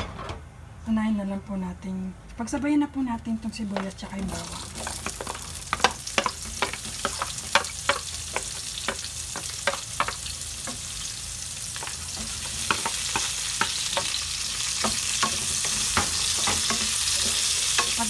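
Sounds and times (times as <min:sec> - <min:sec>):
onion and garlic sizzling in oil: 0:03.4 - 0:18.0.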